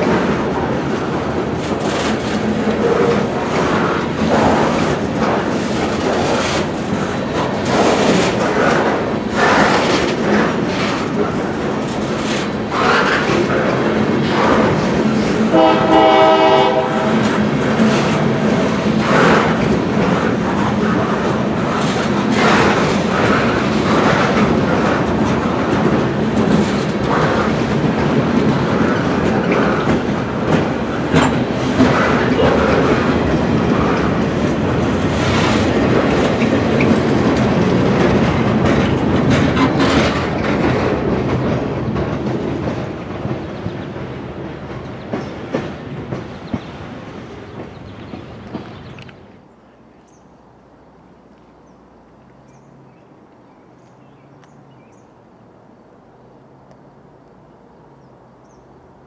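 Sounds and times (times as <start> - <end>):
wheels clicking over rail joints: 0.0 - 49.4
freight train rolling past: 0.0 - 59.0.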